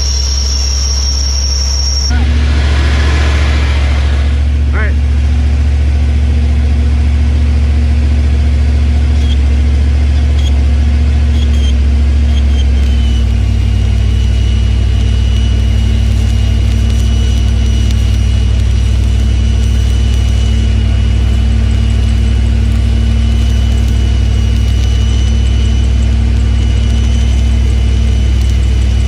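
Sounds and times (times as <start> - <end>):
engine humming: 0.0 - 29.0
high welding whine: 0.0 - 29.0.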